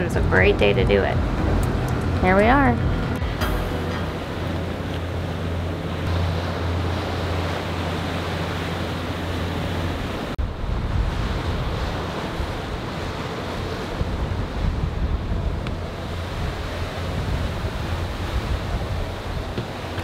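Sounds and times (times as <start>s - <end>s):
low engine hum: 0.0s - 20.0s
water rushing along hull: 0.0s - 20.0s
wind buffeting microphone: 0.0s - 20.0s.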